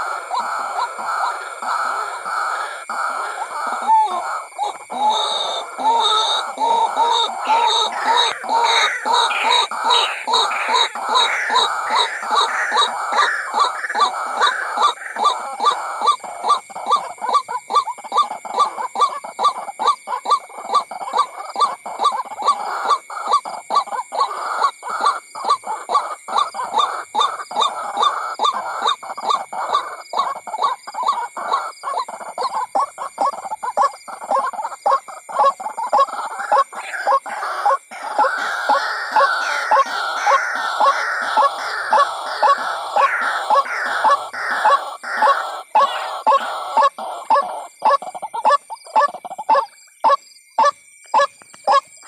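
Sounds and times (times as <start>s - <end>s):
bird harsh repeated calls: 0.0s - 51.9s.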